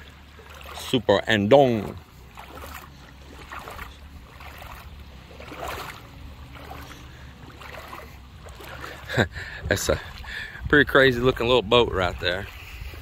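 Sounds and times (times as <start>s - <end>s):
low steady hum: 0.0s - 13.0s
wading through shallow water: 0.0s - 13.0s.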